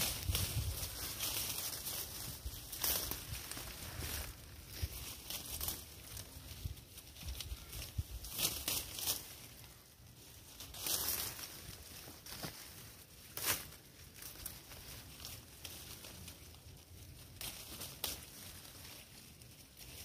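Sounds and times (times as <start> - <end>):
leaves and branches rustling: 0.0 - 20.0.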